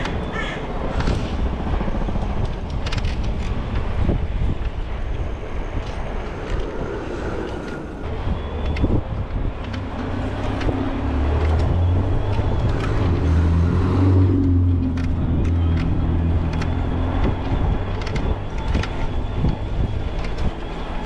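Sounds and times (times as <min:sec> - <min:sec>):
city road traffic rumble: 0:00.0 - 0:21.0
nearby vehicle engine humming: 0:00.0 - 0:21.0.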